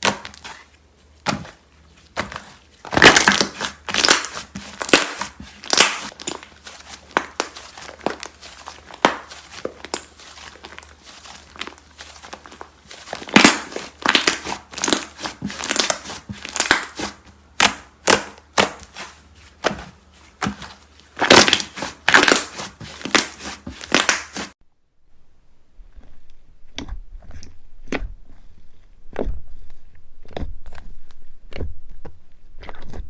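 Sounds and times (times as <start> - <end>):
crunchy slime crackling: 0.0 - 24.6, 25.9 - 33.0.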